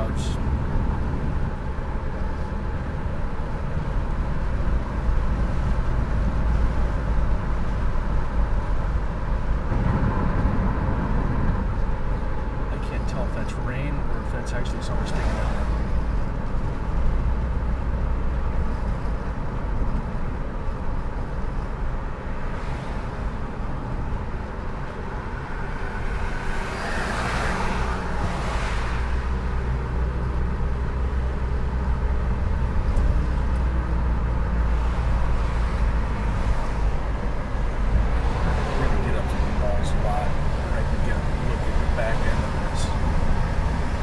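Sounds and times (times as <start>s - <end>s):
car engine rumble: 0.0s - 44.0s
tyre road noise: 0.0s - 44.0s.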